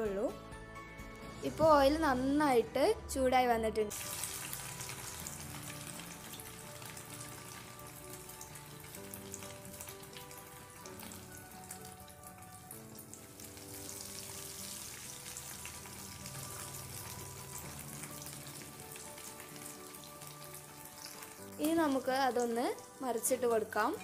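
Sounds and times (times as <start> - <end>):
soft background music: 0.0 - 24.0
bread frying in hot oil: 3.9 - 23.9.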